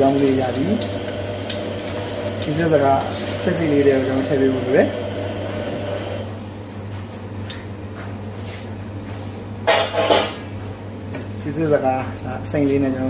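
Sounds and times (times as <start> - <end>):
gas wok range humming: 0.0 - 13.0.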